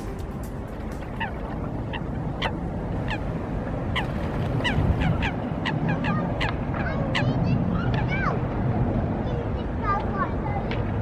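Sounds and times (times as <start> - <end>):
steady low rumble: 0.0 - 11.0
waterbirds calling: 0.0 - 11.0.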